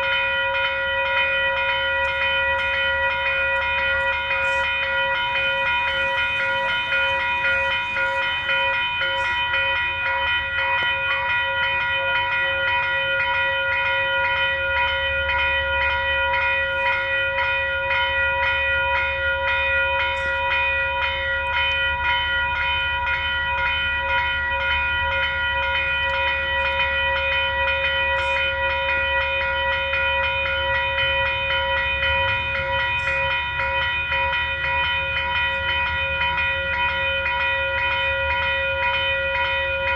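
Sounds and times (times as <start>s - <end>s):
train low rumble: 0.0s - 39.9s
train ringing tone: 0.0s - 39.9s.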